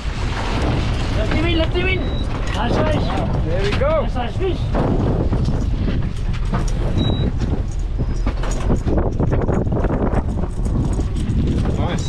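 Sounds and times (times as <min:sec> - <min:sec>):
boat engine low rumble: 0:00.0 - 0:12.0
knocks and rattles: 0:00.0 - 0:12.0
wind on microphone: 0:00.0 - 0:12.0.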